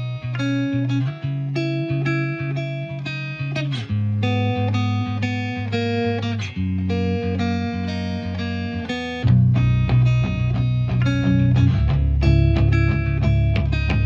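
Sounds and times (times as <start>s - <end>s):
upbeat plucked music with bass: 0.0s - 14.0s.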